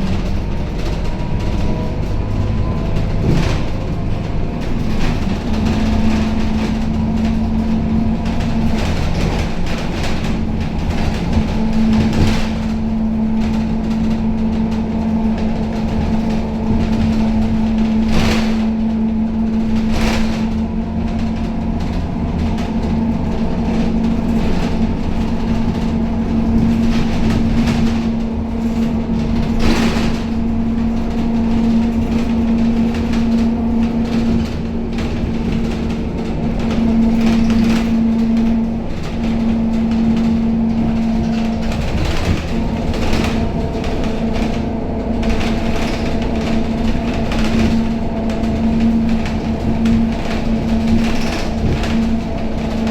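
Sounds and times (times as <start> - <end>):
bus body rattles and knocks: 0.0 - 52.9
bus engine drone: 0.0 - 52.9
low road rumble: 0.0 - 52.9.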